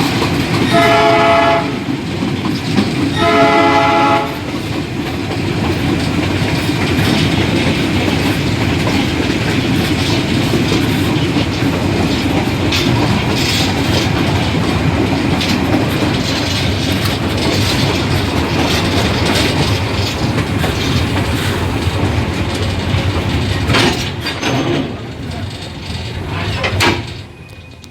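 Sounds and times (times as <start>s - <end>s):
train rumble: 0.0s - 27.9s
train wheels clicking over track joints: 0.0s - 27.9s.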